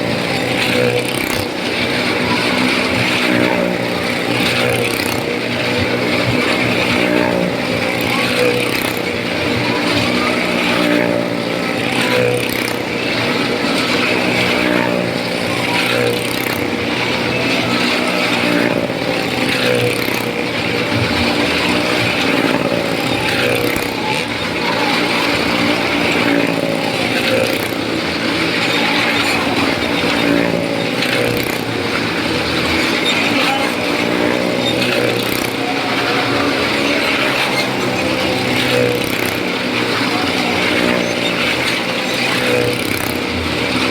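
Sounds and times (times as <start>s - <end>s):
motorcycle engines running hard: 0.0s - 43.9s.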